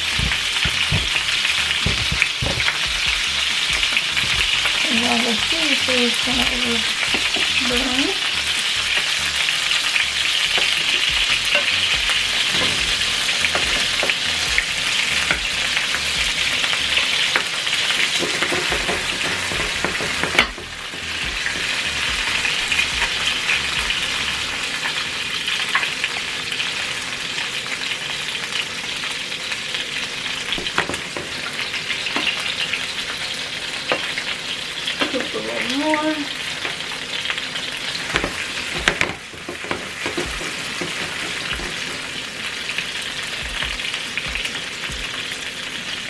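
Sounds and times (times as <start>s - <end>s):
meatballs sizzling in a pan: 0.0s - 46.0s.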